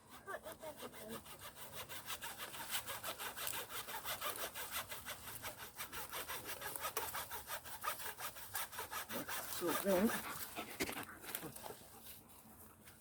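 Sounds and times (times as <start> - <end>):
hand saw cutting wood: 0.0 - 12.2.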